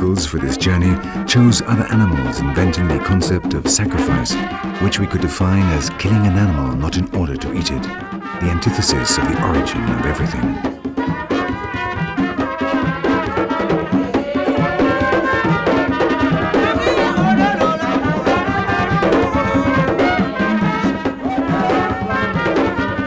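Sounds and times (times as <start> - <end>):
brass horns playing melody: 0.0 - 23.0
steady drumming: 0.0 - 23.0.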